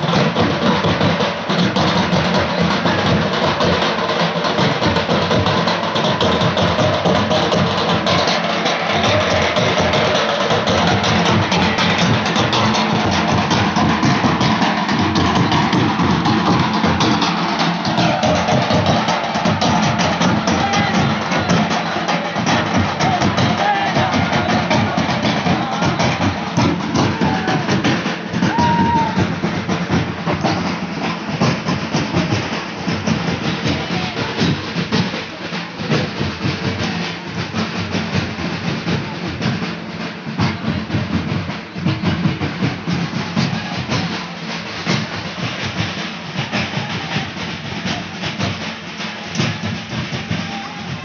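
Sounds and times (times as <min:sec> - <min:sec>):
crowd sound: 0:00.0 - 0:51.0
fast folk drumming: 0:00.0 - 0:51.0.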